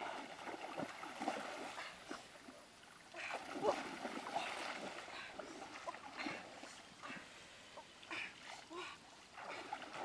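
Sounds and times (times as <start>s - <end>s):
water splashing from wading: 0.0s - 7.1s, 8.0s - 10.0s.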